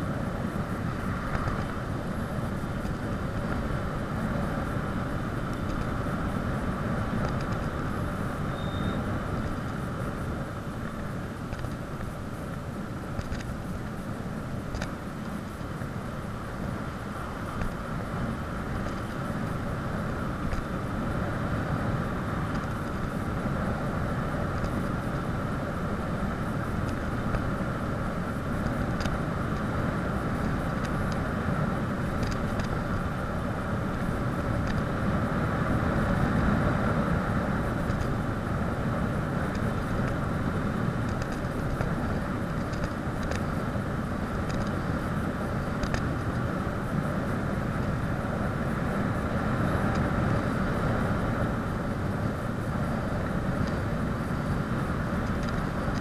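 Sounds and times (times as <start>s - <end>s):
bicycle tyre noise on pavement: 0.0s - 56.0s.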